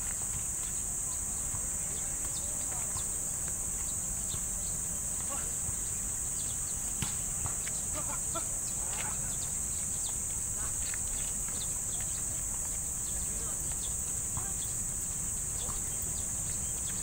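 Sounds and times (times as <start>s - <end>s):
faint chirps and ticks: 0.0s - 17.0s
steady high hiss: 0.0s - 17.0s.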